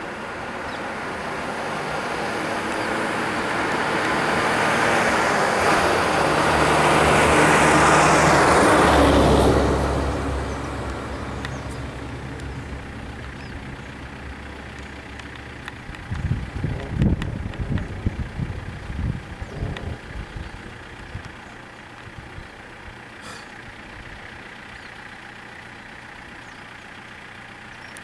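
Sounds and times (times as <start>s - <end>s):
bus diesel engine passing: 0.0s - 28.0s.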